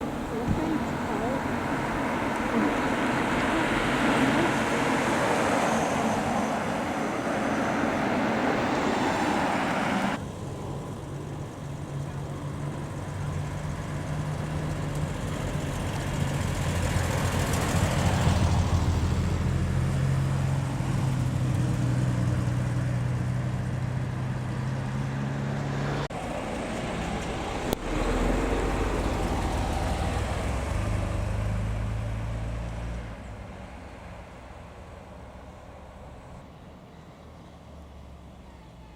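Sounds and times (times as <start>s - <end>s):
cars driving past: 0.0s - 38.9s.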